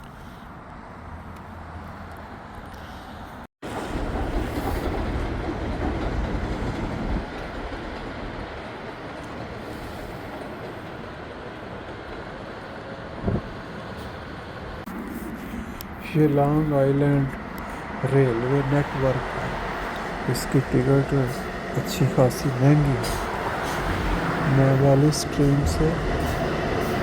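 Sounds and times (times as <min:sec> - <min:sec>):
train rumbling: 0:03.6 - 0:27.0.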